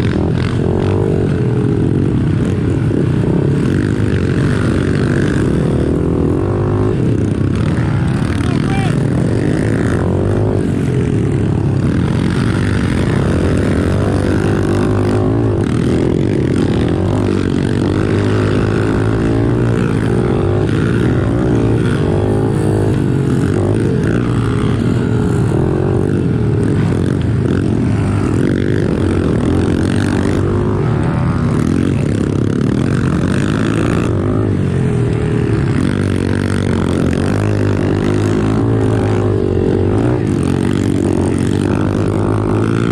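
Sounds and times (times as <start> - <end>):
small motorbike engine revving: 0.0 - 42.9.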